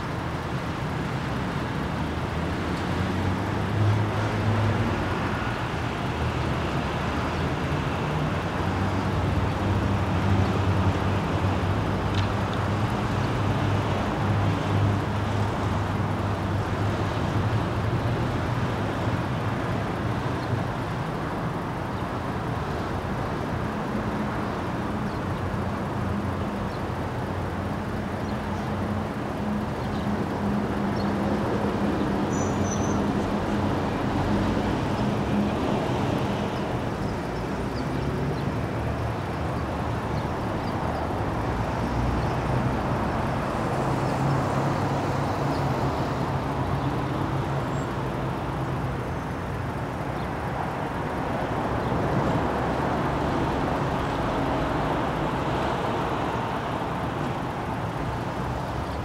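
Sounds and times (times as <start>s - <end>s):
road traffic engines humming: 0.0s - 59.0s.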